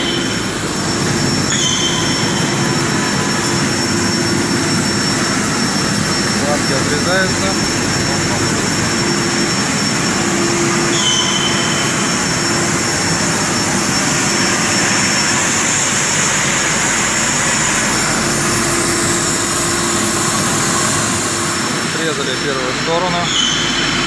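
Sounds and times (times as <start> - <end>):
cutting torch hissing: 0.0 - 24.0.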